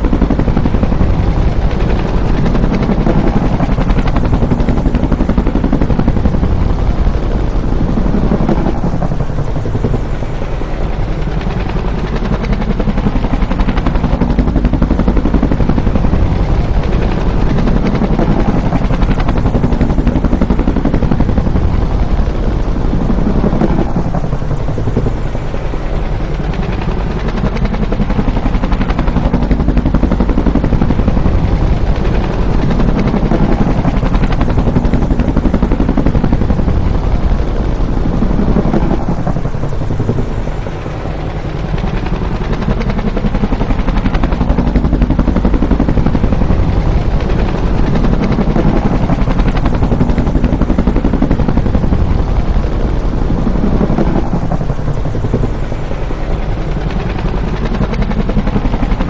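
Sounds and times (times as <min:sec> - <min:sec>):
helicopter rotor thumping: 0:00.0 - 0:59.0.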